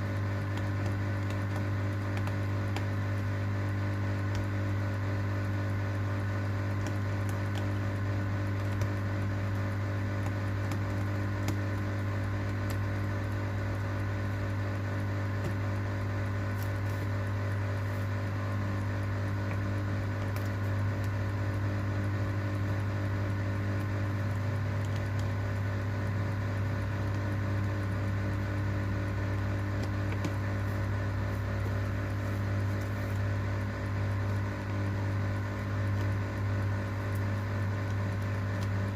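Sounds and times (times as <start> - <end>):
electrical machine hum: 0.0 - 38.9.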